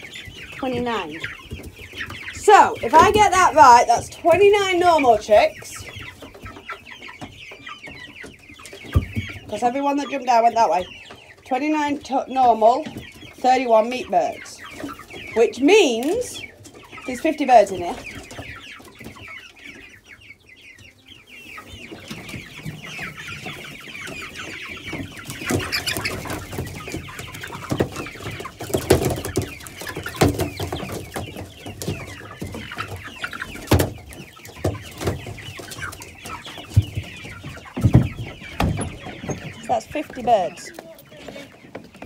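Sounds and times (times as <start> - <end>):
chicks cheeping: 0.0 - 42.0.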